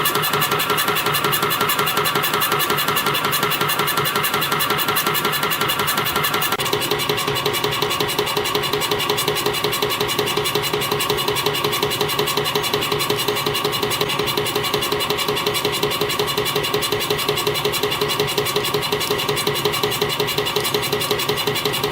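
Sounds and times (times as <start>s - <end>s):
spring coiling machine clatter: 0.0s - 21.9s.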